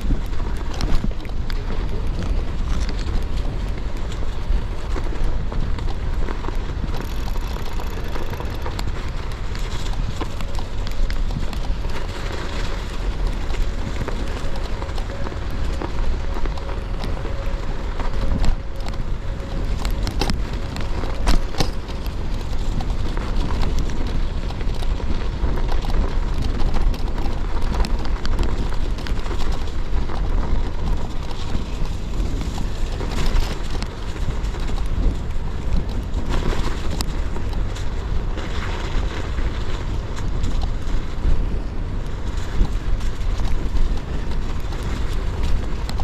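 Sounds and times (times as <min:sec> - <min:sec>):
bike tyres crunching over snow: 0:00.0 - 0:46.0
wind rumble: 0:00.0 - 0:46.0.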